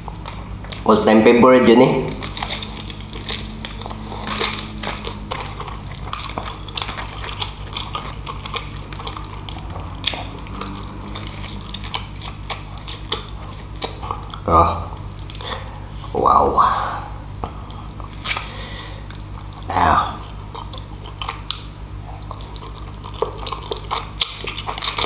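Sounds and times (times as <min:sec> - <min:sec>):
crunching fried chicken: 0:00.0 - 0:25.0
low hum: 0:00.0 - 0:25.0
wet mouth sounds: 0:02.0 - 0:25.0.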